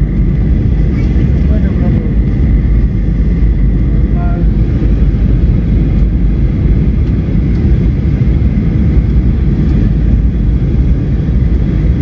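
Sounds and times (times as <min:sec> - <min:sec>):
jet engine rumble: 0:00.0 - 0:12.0
rushing airflow: 0:00.0 - 0:12.0.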